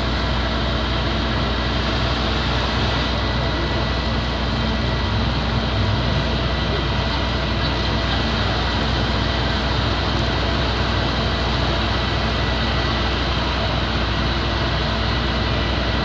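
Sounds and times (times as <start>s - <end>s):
fire engine drone and hiss: 0.0s - 16.0s.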